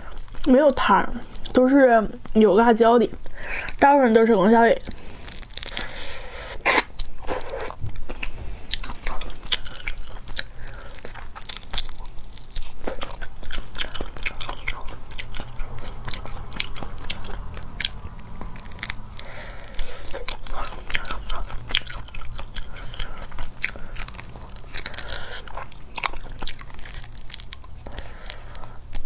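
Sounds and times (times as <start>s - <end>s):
chewing crunches: 3.3s - 29.0s.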